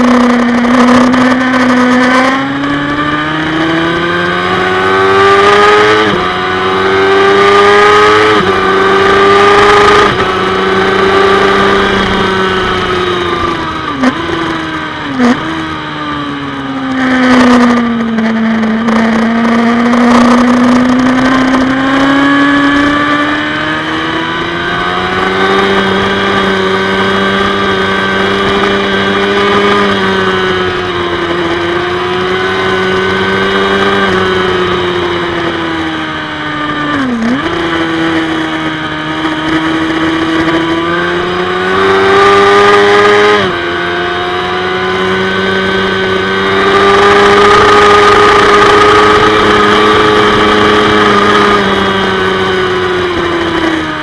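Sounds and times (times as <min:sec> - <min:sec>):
racing motorcycle engine: 0:00.0 - 0:54.0.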